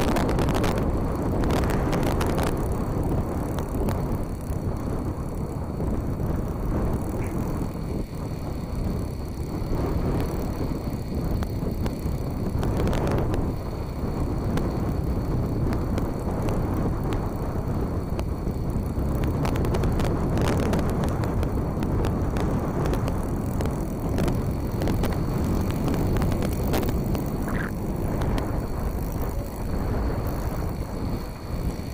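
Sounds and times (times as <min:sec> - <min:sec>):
model plane motor running: 0:00.0 - 0:31.9
wind buffeting microphone: 0:00.0 - 0:31.9.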